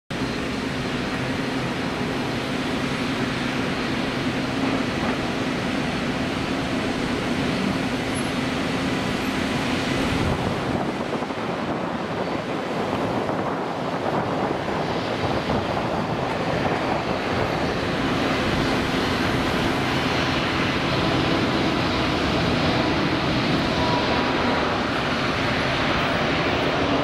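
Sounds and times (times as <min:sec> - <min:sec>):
jet engines on takeoff roll: 0:00.1 - 0:27.0.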